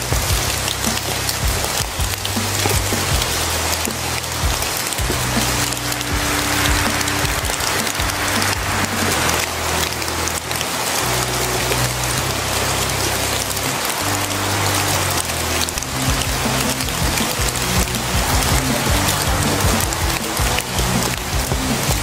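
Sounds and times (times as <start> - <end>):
deep sustained music chords: 0.0 - 22.0
rain-like hiss: 0.0 - 22.0.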